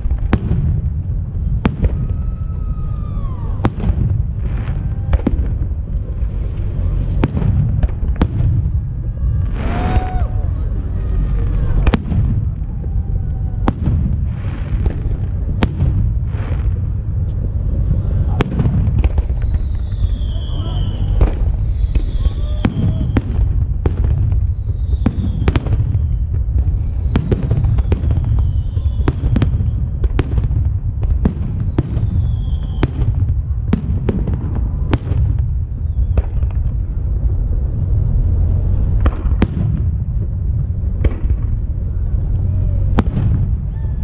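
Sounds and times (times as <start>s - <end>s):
fireworks bursting with sharp bangs: 0.0s - 44.0s
steady low rumble: 0.0s - 44.0s.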